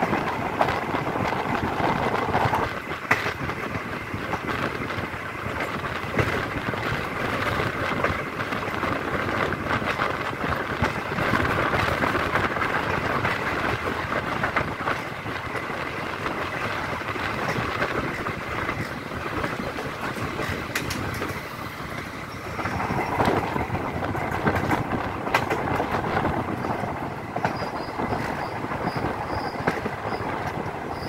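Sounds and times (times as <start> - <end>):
train rumble and wind rush: 0.0 - 31.0
wheels clicking over track: 0.0 - 31.0.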